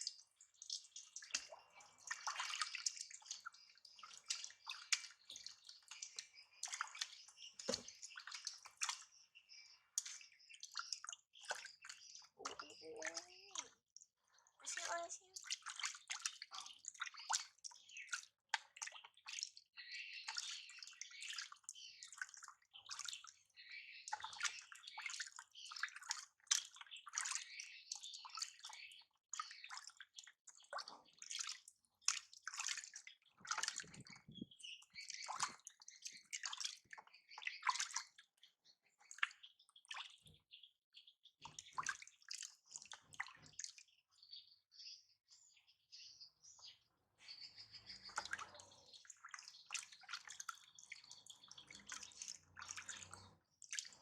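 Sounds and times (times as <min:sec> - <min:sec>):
water splashing and dripping: 0:00.0 - 0:44.4, 0:47.6 - 0:54.0.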